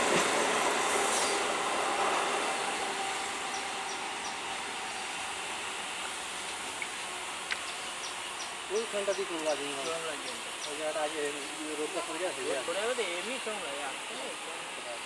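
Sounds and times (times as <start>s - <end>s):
train rolling along track: 0.0s - 15.0s.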